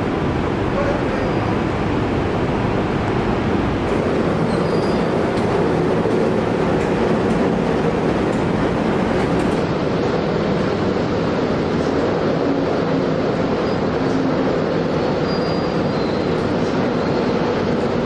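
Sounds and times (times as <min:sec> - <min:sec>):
locomotive running rumble: 0:00.0 - 0:18.0.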